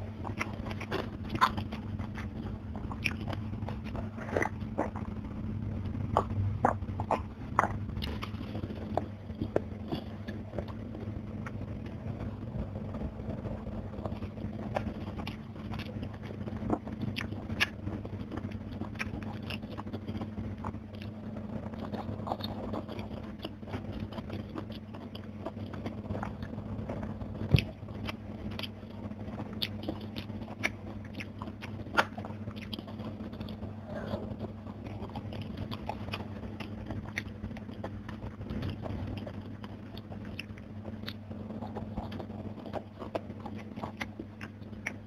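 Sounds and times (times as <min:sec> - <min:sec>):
chewing and crunching fried food: 0:00.0 - 0:45.0
steady low hum: 0:00.0 - 0:45.0.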